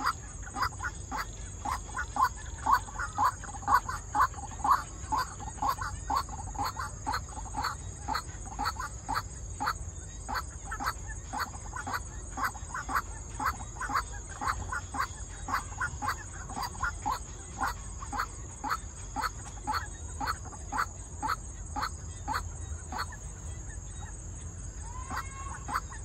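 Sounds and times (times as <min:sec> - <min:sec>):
waterhen calling: 0:00.0 - 0:23.6, 0:24.8 - 0:26.0.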